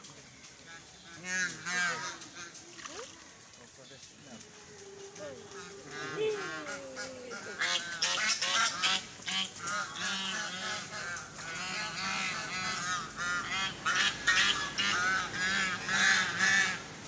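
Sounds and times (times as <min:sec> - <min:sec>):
waterfowl honking: 0:00.6 - 0:03.3, 0:04.3 - 0:17.0.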